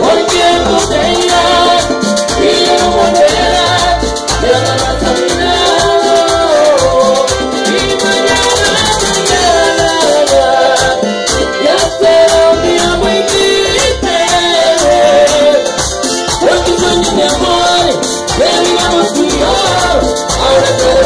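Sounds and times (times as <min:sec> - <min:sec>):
live latin band music: 0:00.0 - 0:21.0.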